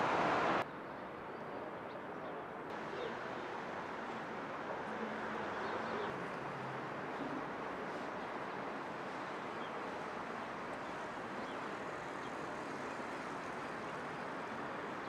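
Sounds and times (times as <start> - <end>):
distant traffic hum: 0.0 - 15.0.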